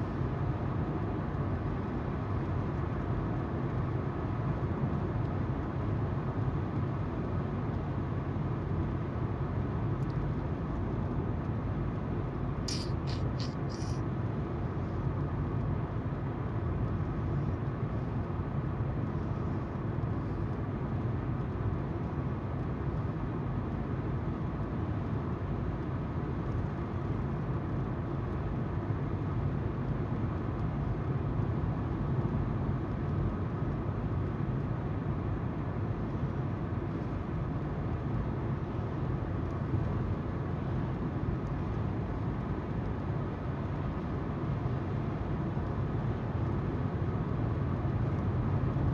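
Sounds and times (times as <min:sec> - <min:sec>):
low engine hum: 0:00.0 - 0:48.9.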